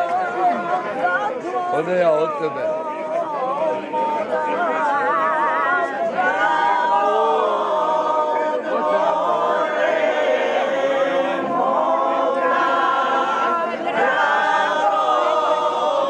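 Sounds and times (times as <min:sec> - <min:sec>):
group singing without instruments: 0:02.7 - 0:16.0.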